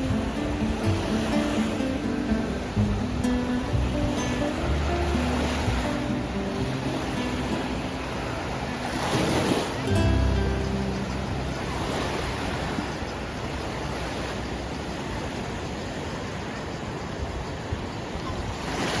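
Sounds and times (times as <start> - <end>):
surf rushing: 0.0 - 19.0.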